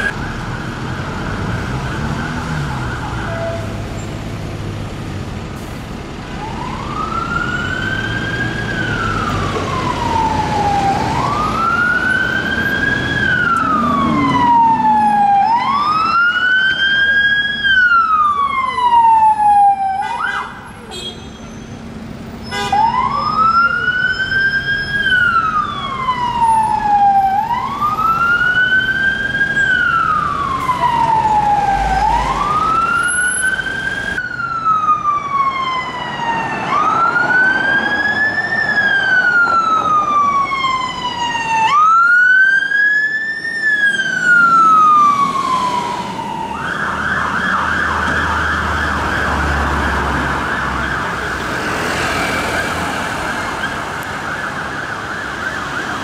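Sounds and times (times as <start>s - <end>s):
traffic noise: 0.0s - 56.0s
emergency siren wailing and yelping: 2.1s - 3.8s, 6.4s - 20.3s, 22.7s - 56.0s.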